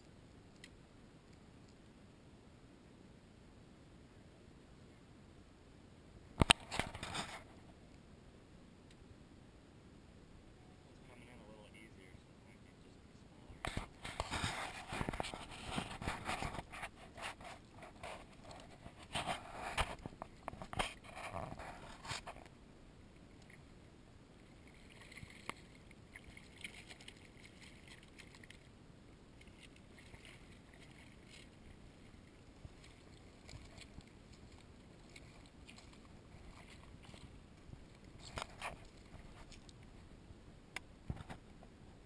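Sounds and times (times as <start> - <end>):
hiss of water and wind: 0.0 - 42.0.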